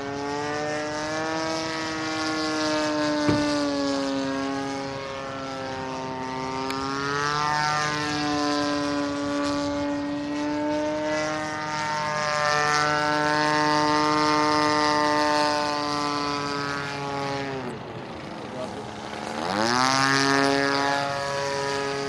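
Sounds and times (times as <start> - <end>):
model plane engine buzzing: 0.0 - 22.0.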